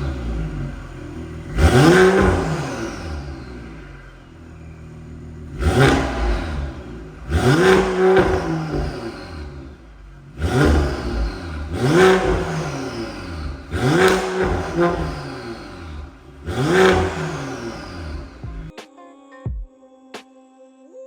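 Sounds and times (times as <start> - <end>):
car engine revving: 0.0 - 18.7.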